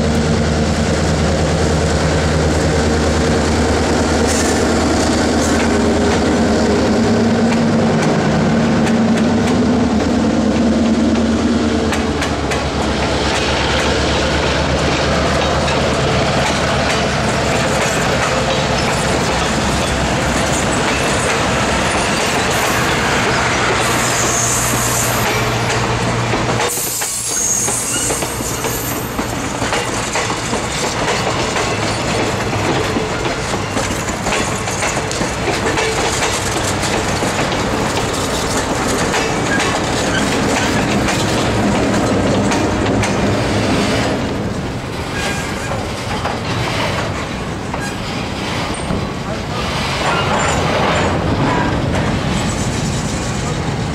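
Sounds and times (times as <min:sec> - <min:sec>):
diesel locomotive passing: 0:00.0 - 0:53.9
train wheels clicking over rail joints: 0:00.1 - 0:53.9.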